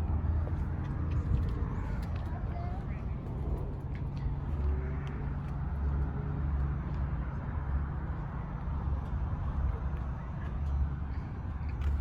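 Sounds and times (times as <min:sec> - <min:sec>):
busy parking lot noise: 0:00.0 - 0:12.0
car engines idling: 0:00.0 - 0:12.0.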